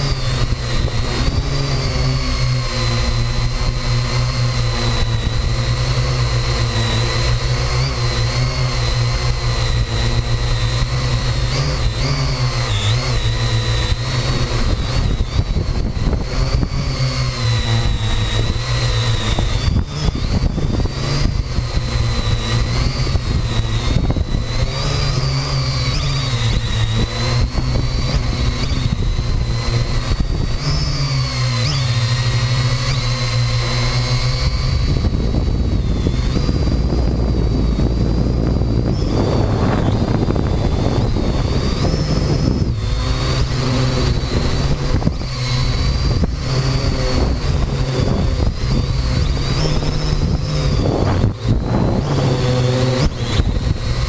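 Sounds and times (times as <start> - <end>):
drone motors and propellers whining: 0.0 - 54.0.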